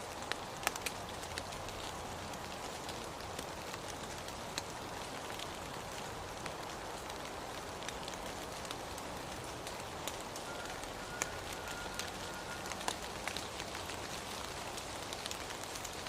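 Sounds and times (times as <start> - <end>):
raindrops ticking close by: 0.0 - 16.0
steady rain falling: 0.0 - 16.0.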